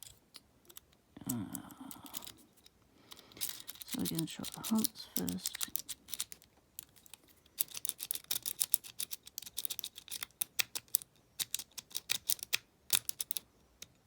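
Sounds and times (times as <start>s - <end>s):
lock-picking tools clicking: 0.0s - 14.0s.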